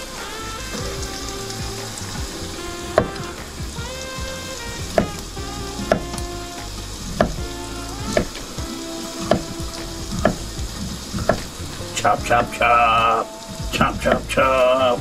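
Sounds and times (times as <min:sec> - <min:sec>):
skillet sizzling: 0:00.0 - 0:15.0
soft background music: 0:00.0 - 0:15.0.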